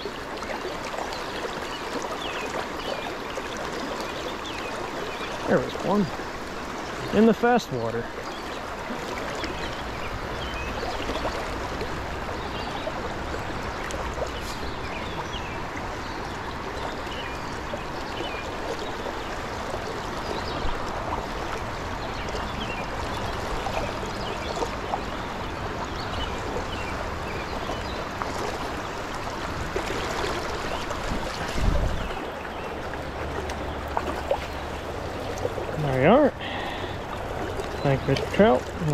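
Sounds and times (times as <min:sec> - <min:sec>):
small splashes and gurgles: 0:00.0 - 0:07.2, 0:08.0 - 0:38.9
stream water rushing: 0:00.0 - 0:38.9.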